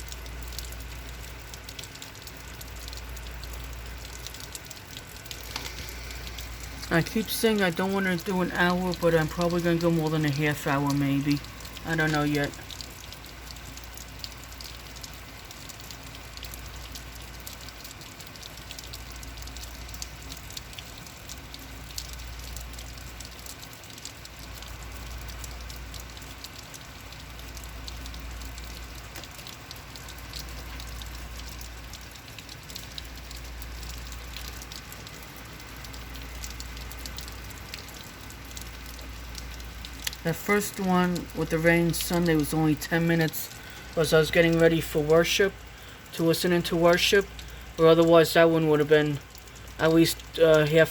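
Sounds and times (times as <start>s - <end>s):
heavy rain: 0.0s - 50.9s
raindrops pattering: 0.0s - 50.9s.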